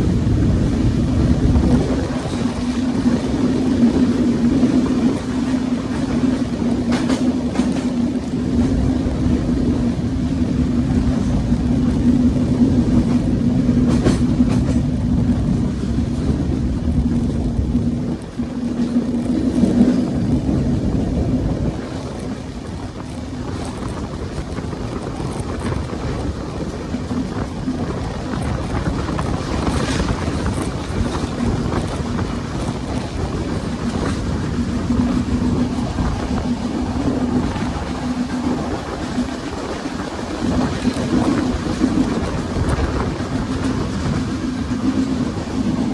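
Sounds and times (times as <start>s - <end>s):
train rumbling: 0.0s - 45.9s
wind buffeting microphone: 0.0s - 45.9s.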